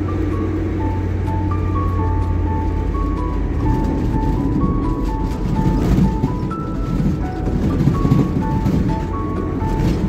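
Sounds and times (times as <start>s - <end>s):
dense low rumble: 0.0s - 10.0s
simple melody of held notes: 0.0s - 10.0s.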